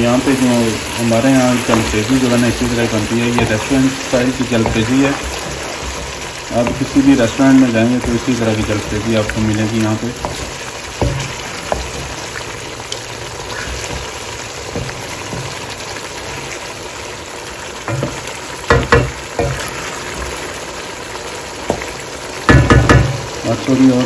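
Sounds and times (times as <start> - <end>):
spatula scraping and knocking pan: 0.0 - 16.7, 17.8 - 20.6, 21.7 - 23.4
curry sizzling in a wok: 0.0 - 24.0.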